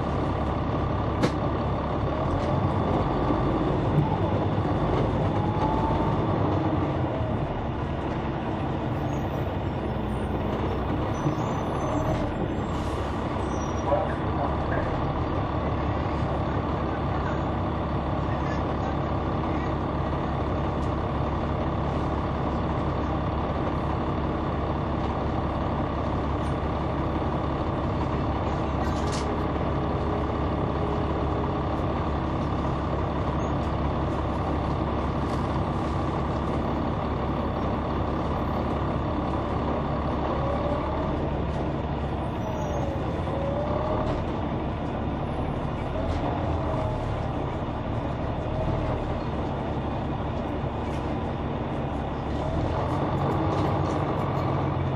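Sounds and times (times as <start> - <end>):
diesel bus engine running: 0.0 - 54.9.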